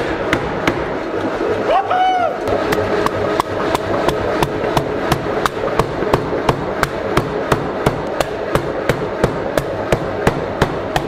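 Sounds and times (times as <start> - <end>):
forging hammer striking wood: 0.0 - 0.9, 2.7 - 11.0
machine hum: 0.0 - 11.0.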